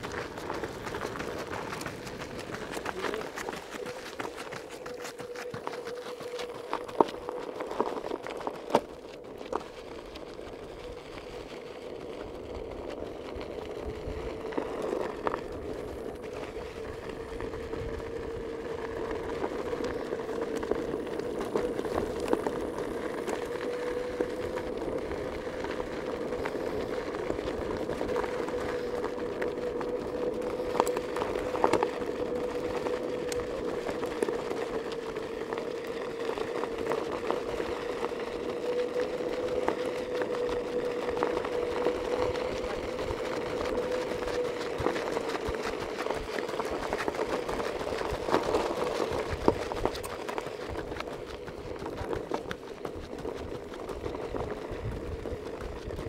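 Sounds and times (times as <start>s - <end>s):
vehicle motor humming: 0.0s - 56.0s.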